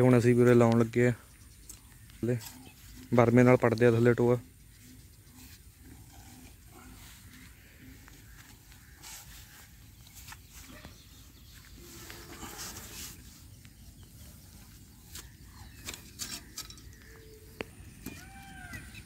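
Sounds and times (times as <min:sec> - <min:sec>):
bird chirping: 0:00.0 - 0:19.0
hand auger scraping in soil: 0:02.2 - 0:19.0.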